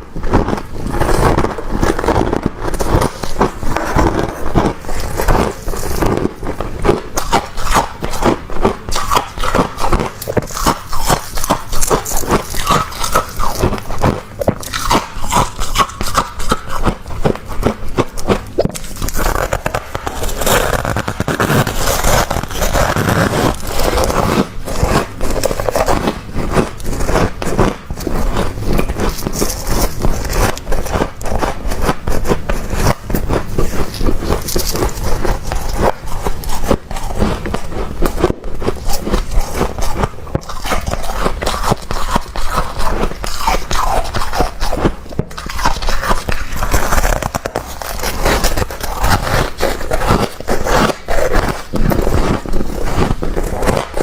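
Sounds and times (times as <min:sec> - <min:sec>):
freezer frost being scraped: 0:00.0 - 0:54.0.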